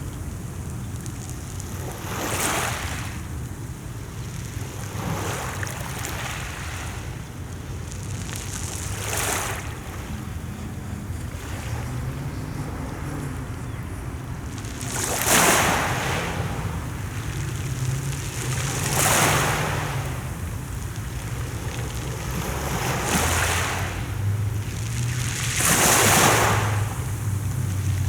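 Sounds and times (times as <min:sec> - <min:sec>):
sea waves washing onto shore: 0:00.0 - 0:28.0.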